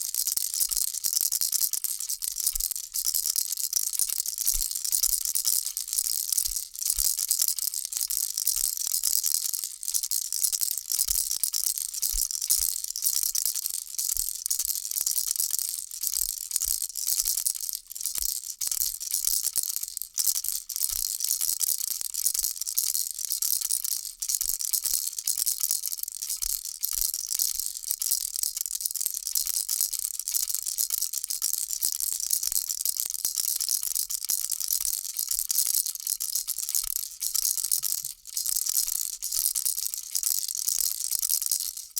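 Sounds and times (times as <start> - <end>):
baby rattle shaken: 0.0 - 41.9.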